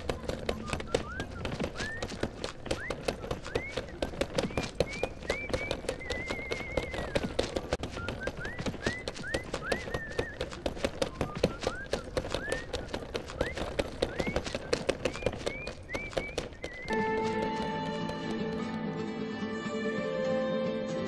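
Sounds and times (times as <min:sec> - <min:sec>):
horse hooves clip-clopping: 0:00.0 - 0:20.2
person whistling: 0:00.5 - 0:18.7.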